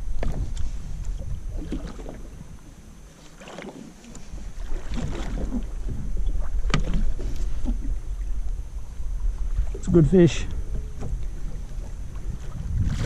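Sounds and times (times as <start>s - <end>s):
wind buffeting microphone: 0.0s - 2.8s, 4.2s - 13.0s
water sloshing: 0.0s - 13.0s.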